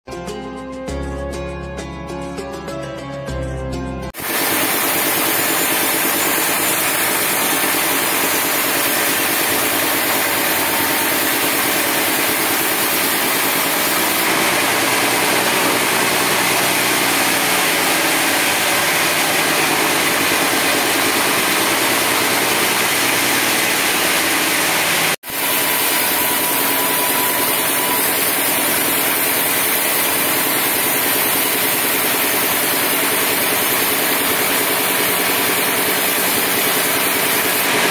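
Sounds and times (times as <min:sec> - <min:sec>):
sawmill saw running: 0:04.2 - 0:37.9.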